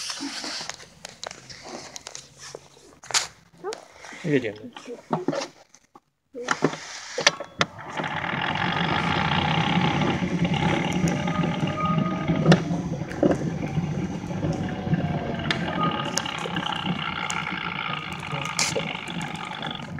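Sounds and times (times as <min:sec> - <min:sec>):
ride-on vehicle rolling noise: 0:00.0 - 0:03.9, 0:06.5 - 0:19.9.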